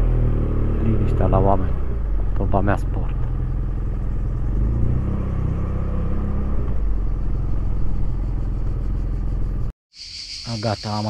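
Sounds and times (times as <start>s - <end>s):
motorcycle engine rumble: 0.0s - 9.7s.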